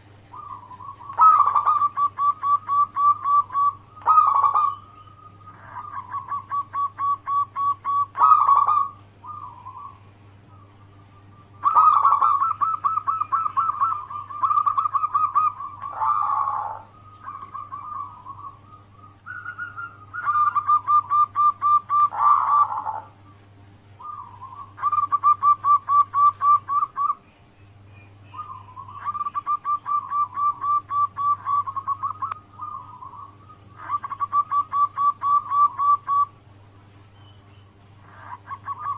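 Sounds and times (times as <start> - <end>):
dove cooing: 0.0 - 27.2, 28.2 - 36.4, 37.8 - 38.9
steady low hum: 0.0 - 38.9.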